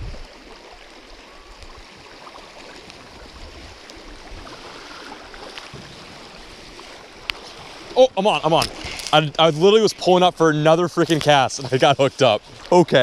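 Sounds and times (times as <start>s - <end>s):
shallow river flowing: 0.0s - 13.0s.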